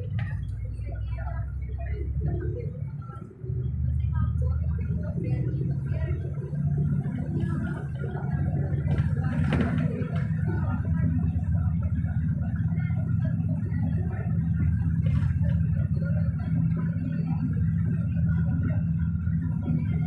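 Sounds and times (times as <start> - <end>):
vehicle cabin rumble and hum: 0.0 - 20.0.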